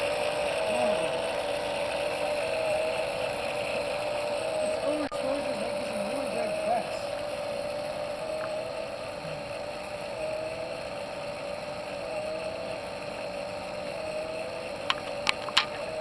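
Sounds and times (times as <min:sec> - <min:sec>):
motor hum: 0:00.0 - 0:16.0
rushing flame: 0:00.0 - 0:16.0.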